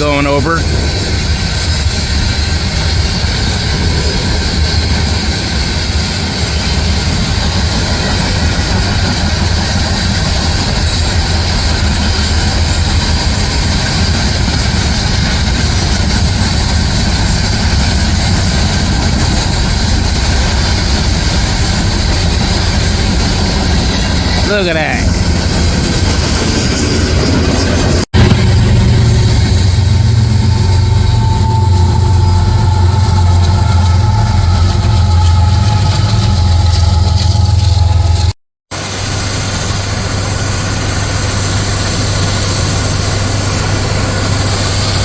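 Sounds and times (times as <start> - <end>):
heavy engine drone: 0.0 - 45.0
high steady whine: 0.0 - 45.0.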